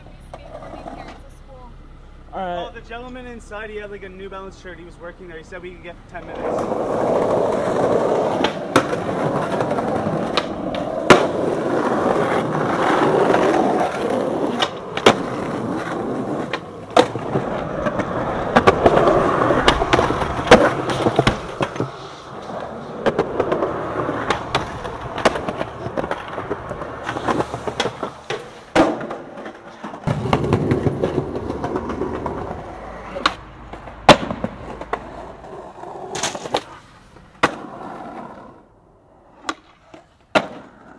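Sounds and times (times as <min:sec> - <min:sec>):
skateboard wheels rolling on concrete: 0:00.0 - 0:01.9, 0:03.0 - 0:40.9
skateboard popping and landing: 0:06.2 - 0:40.9.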